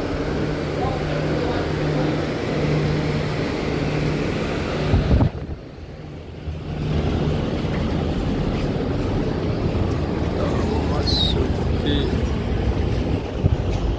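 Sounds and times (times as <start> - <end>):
machinery drone: 0.0 - 13.9.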